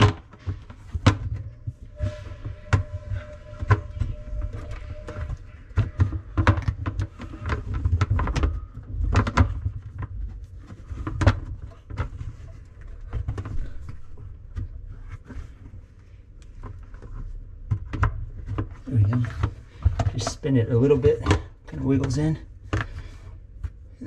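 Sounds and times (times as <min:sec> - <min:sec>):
plastic parts clicking and knocking: 0:00.0 - 0:01.9, 0:02.7 - 0:24.0.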